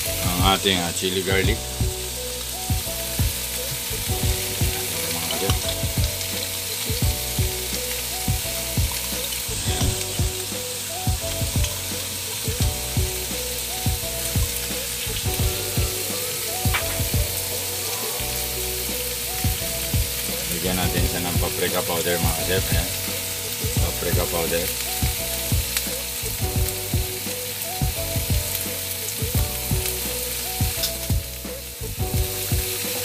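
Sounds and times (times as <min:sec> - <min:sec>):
meat sizzling in a frying pan: 0:00.0 - 0:33.0.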